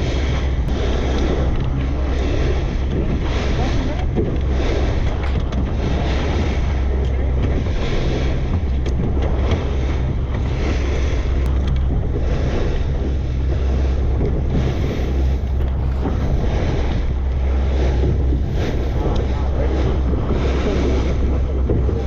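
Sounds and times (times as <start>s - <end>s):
boat engine humming: 0.0s - 22.0s
sea noise: 0.0s - 22.0s
wind buffeting microphone: 0.0s - 22.0s.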